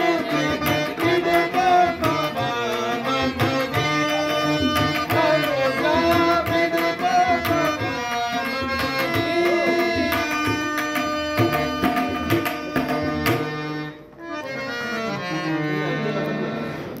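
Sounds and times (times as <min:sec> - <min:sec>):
tabla strokes: 0:00.0 - 0:13.8
harmonium held notes: 0:00.0 - 0:17.0.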